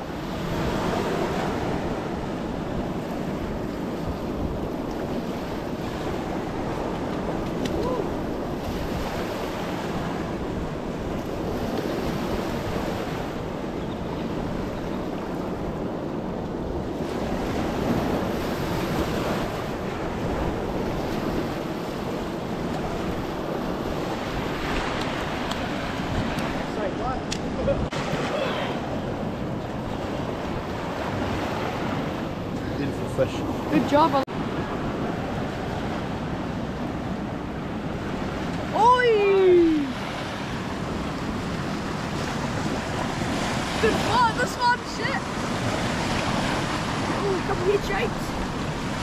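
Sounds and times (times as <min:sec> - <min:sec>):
surf washing: 0:00.0 - 0:49.0
wind buffeting microphone: 0:00.0 - 0:49.0.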